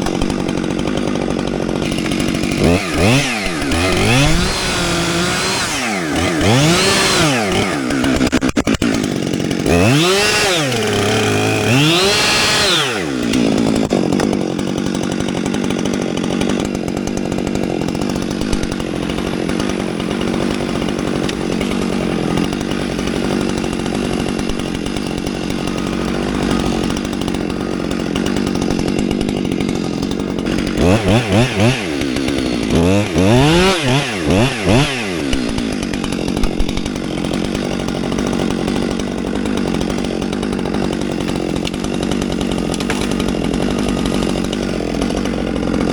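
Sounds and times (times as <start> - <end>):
chainsaw revving and cutting log: 0.0 - 45.9.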